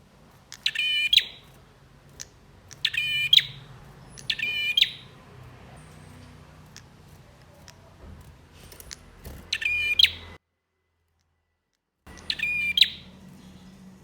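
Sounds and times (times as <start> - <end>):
bird rapid chattering call: 0.4 - 10.4, 12.1 - 13.8.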